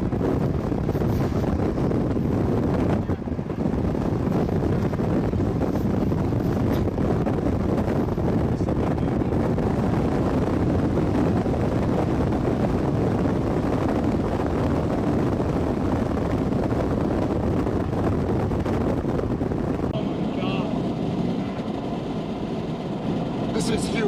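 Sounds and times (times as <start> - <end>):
vehicle in motion: 0.0 - 24.0
wind rumbling: 0.0 - 24.0.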